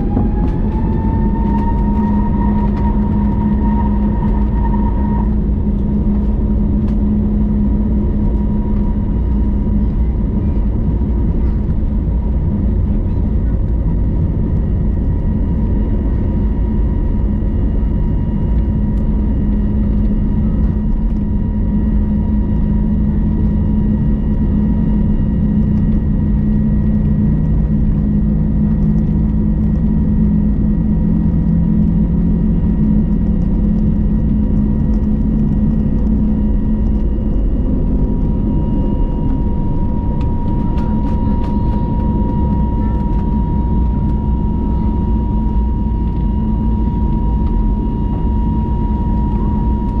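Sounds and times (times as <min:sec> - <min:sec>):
thin whine: 0:00.0 - 0:10.6, 0:17.4 - 0:50.0
jet engines droning: 0:00.0 - 0:50.0.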